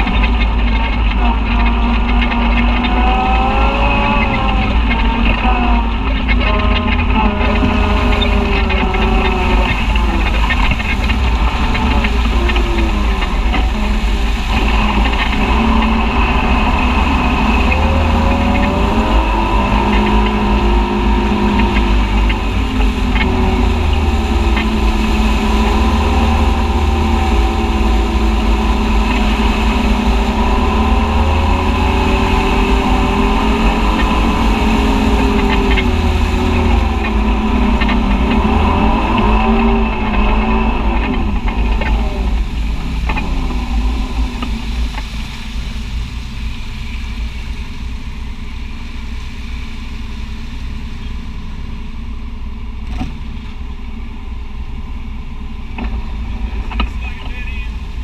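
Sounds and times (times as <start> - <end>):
utility vehicle engine under load: 0.0 - 58.0.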